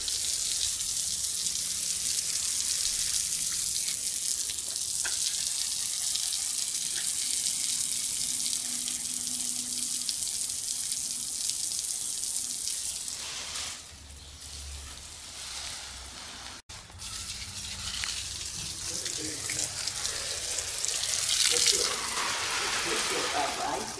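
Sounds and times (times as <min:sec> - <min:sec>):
hose spraying water onto stone: 0:00.0 - 0:14.8, 0:16.9 - 0:23.9.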